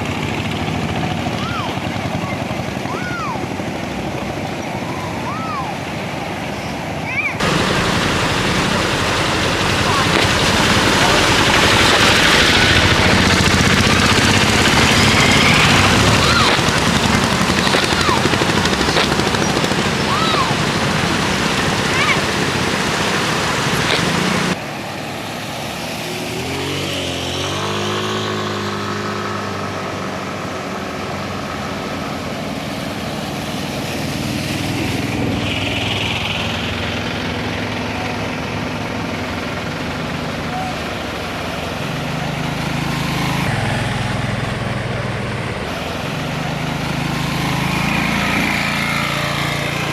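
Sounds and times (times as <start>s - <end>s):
autorickshaw engines running: 0.0s - 49.9s
loud rushing noise: 0.0s - 49.9s.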